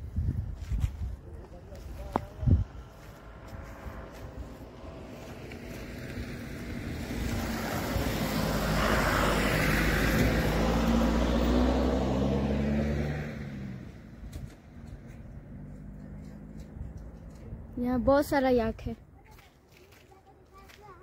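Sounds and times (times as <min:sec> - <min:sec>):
vehicle passing by: 0:01.6 - 0:18.8.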